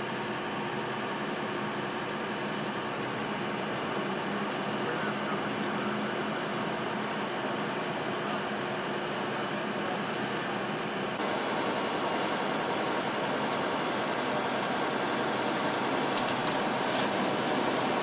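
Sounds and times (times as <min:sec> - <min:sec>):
emergency vehicles idling: 0:00.0 - 0:18.0.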